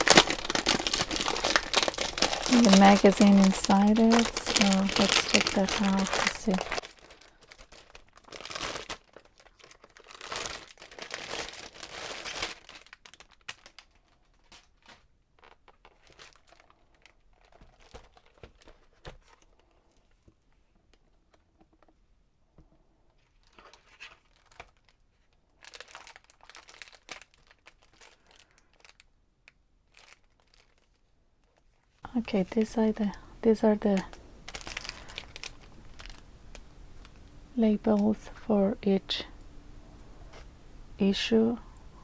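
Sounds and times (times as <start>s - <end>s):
plastic packaging crinkling: 0.0s - 20.1s, 23.3s - 29.1s, 29.8s - 42.0s.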